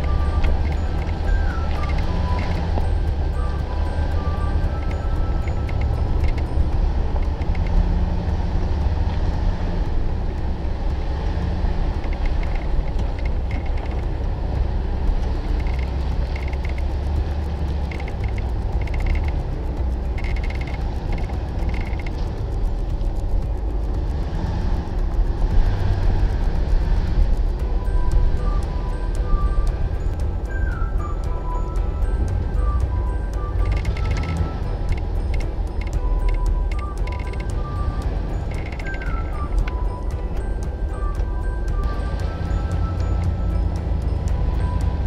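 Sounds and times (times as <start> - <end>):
engine and tyres on gravel: 0.0 - 45.0.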